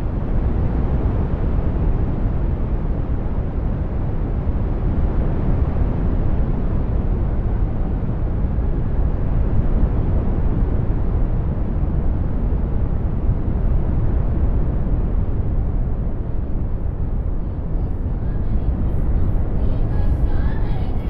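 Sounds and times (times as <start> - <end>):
deep rumbling brown noise: 0.0 - 21.0.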